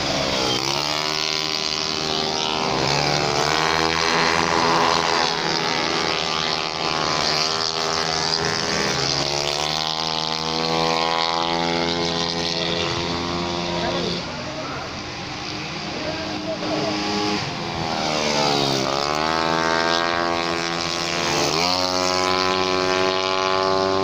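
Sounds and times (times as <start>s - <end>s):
scooters passing at high revs: 0.0s - 24.0s.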